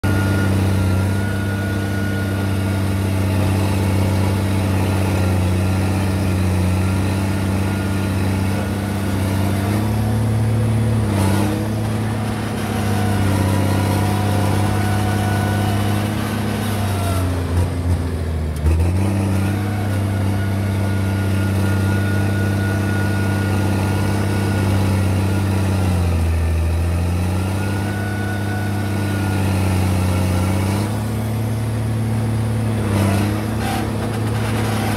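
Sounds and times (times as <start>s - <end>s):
diesel dozer engine running: 0.0s - 34.9s.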